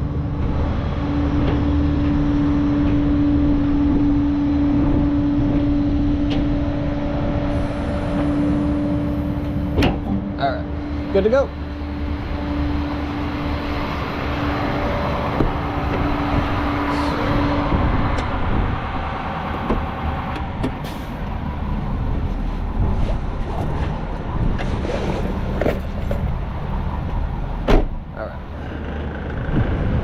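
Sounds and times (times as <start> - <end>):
steady hum: 0.0 - 24.6
truck engine and road rumble: 0.0 - 30.0.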